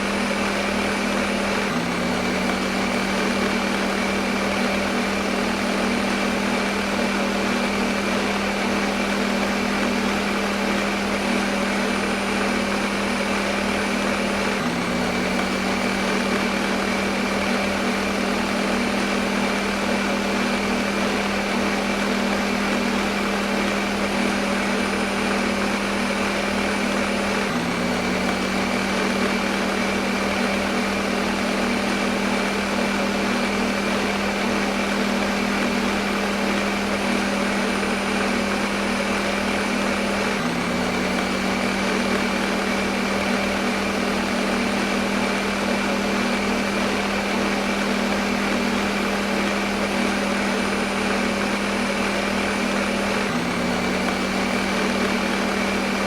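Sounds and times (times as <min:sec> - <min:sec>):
blender motor whirring: 0:00.0 - 0:56.0.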